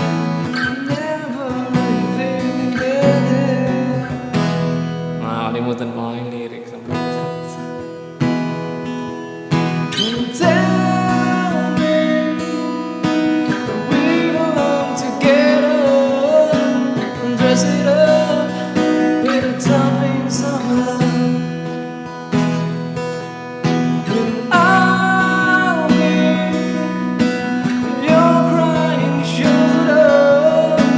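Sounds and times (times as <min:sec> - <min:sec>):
person singing: 0:00.0 - 0:08.0, 0:09.9 - 0:23.0, 0:23.8 - 0:30.9
guitar strumming: 0:00.0 - 0:30.9.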